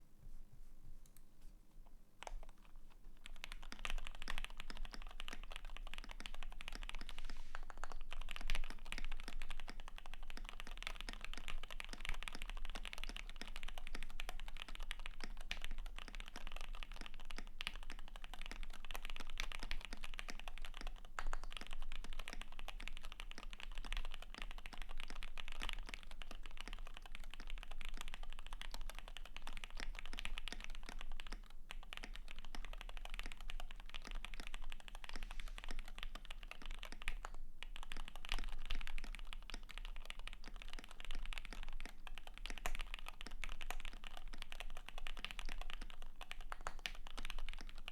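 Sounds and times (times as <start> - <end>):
fast typing on mechanical keyboard: 2.2 - 47.9.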